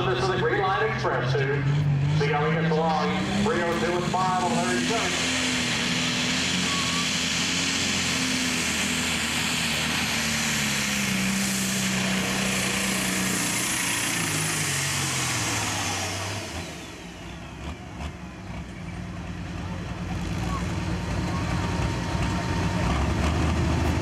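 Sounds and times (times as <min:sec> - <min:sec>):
diesel engine at full power: 0:00.0 - 0:24.0.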